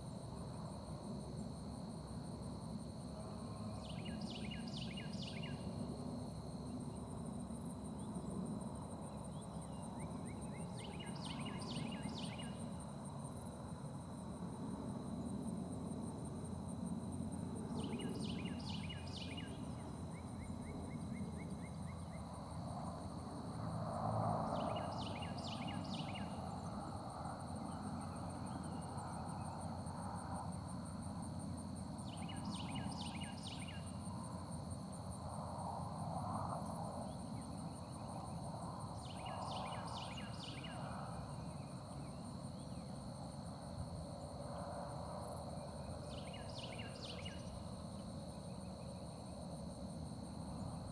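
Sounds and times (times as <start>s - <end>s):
high insect trill: 0.0s - 50.9s.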